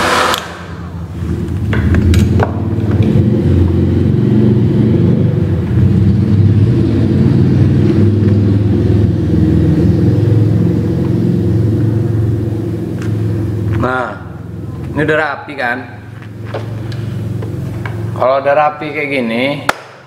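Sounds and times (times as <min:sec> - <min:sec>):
loud steady low rumble: 0:00.0 - 0:19.7.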